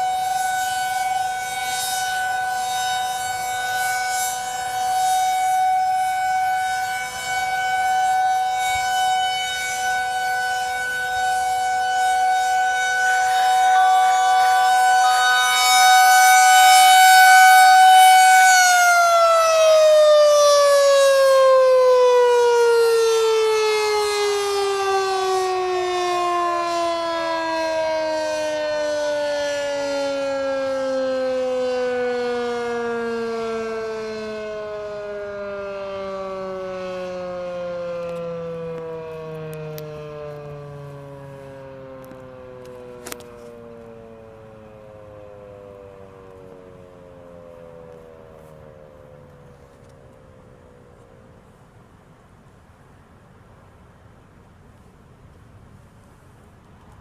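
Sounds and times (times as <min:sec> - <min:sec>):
tornado siren steady tone: 0:00.0 - 0:57.0.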